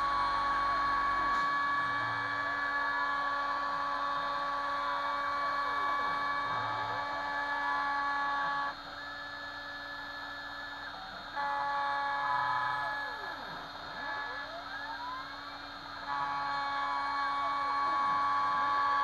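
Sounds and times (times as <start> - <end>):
machine tones rising and falling: 0.0 - 19.0
router spindle running: 0.0 - 19.0.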